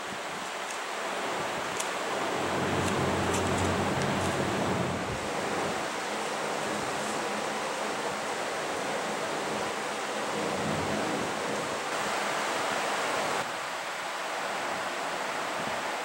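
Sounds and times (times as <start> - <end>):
fan running with rushing hiss: 0.0 - 16.0.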